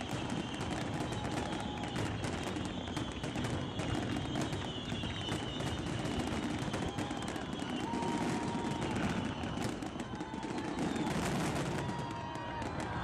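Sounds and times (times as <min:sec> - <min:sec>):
crowd noise: 0:00.0 - 0:13.0
fireworks crackling: 0:00.0 - 0:13.0
high whistle: 0:00.0 - 0:13.0.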